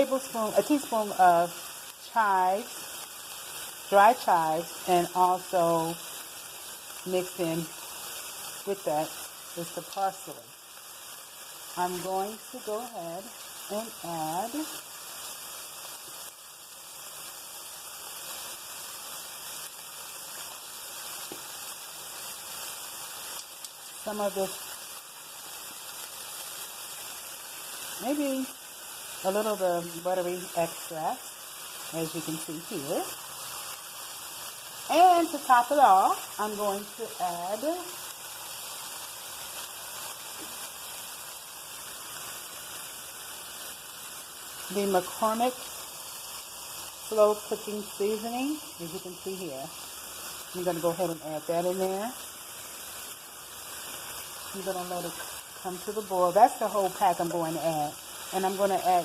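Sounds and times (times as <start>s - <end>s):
food sizzling in a skillet: 0.0s - 59.0s.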